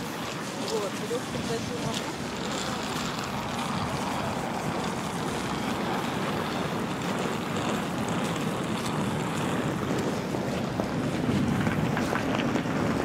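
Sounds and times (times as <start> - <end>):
distant road traffic hum: 0.0 - 13.0
wind buffeting the microphone: 0.0 - 13.0.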